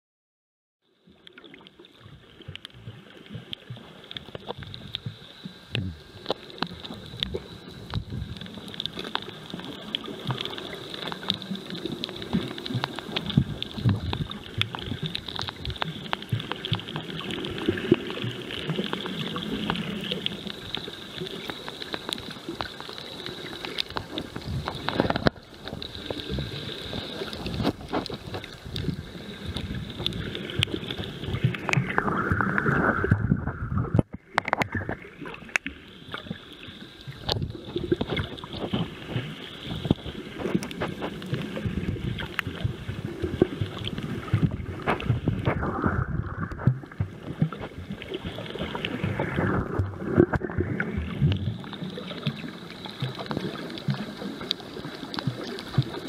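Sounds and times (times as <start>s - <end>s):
underwater rushing and sloshing: 0.9s - 56.0s
small crackling clicks: 1.1s - 56.0s.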